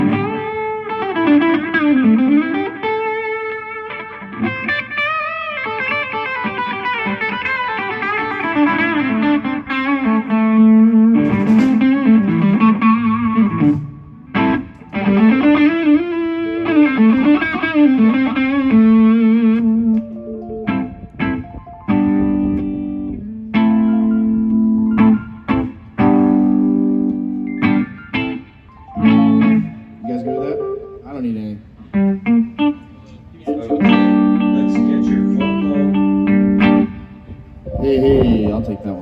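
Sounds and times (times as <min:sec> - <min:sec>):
electric guitar melody: 0:00.0 - 0:39.0.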